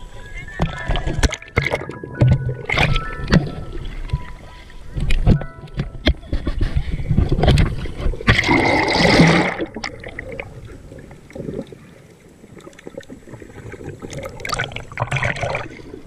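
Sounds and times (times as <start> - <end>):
water splashing: 0.0 - 16.0.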